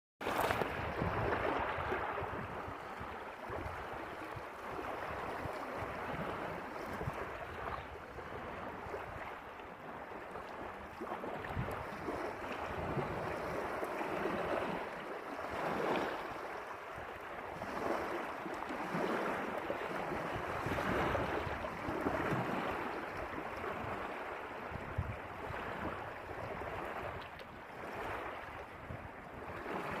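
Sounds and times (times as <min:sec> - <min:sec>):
wind buffeting microphone: 0:00.3 - 0:18.2, 0:18.8 - 0:30.0.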